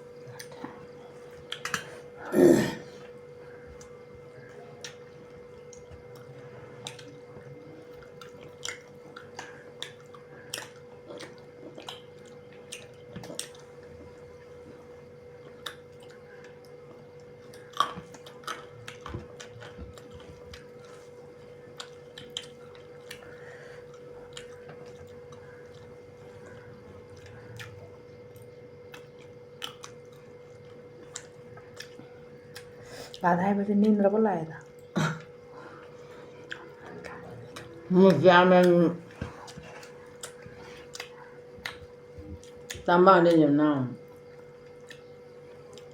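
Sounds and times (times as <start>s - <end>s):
person chewing food: 0.0s - 33.2s, 34.6s - 42.9s, 44.0s - 45.9s
faint steady hum: 0.0s - 45.9s.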